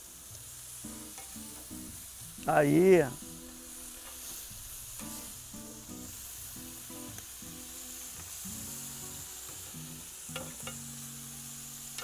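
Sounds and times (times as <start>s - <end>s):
meat sizzling on a griddle: 0.0s - 12.0s
background music with low notes: 0.1s - 12.0s.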